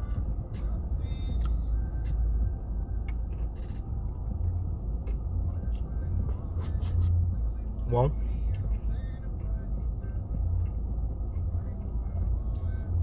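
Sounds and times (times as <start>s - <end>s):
low rumble inside car cabin: 0.0s - 13.0s.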